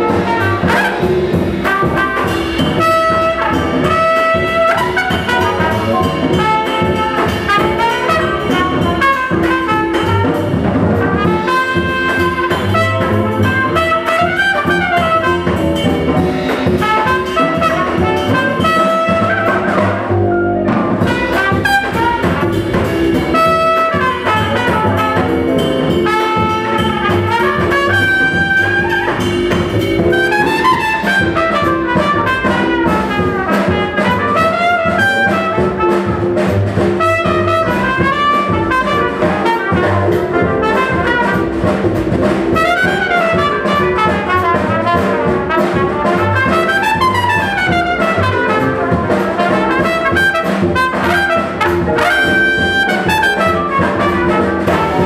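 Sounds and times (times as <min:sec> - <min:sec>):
jazz trumpet solo: 0:00.0 - 0:55.0
piano bass and drums: 0:00.0 - 0:55.0.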